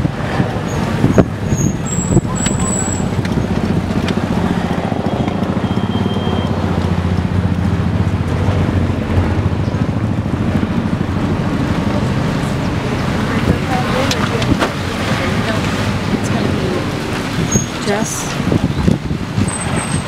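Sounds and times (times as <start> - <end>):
minibus engine rumble: 0.0 - 20.0
road noise: 0.0 - 20.0.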